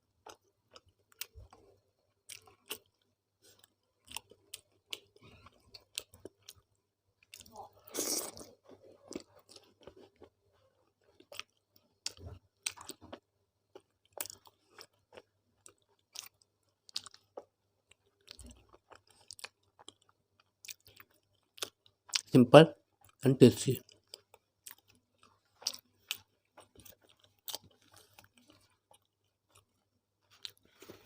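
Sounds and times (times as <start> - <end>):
person chewing: 0.1 - 23.2, 23.8 - 31.0.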